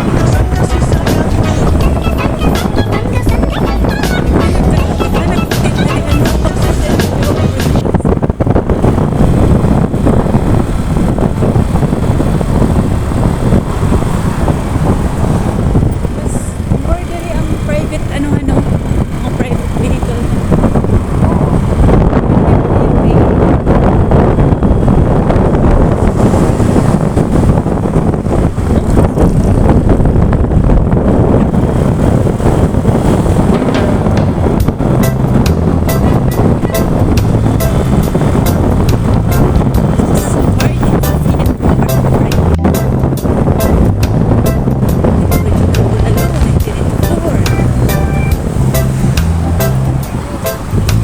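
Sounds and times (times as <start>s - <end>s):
road and engine noise: 0.0s - 51.0s
wind on microphone: 0.0s - 51.0s.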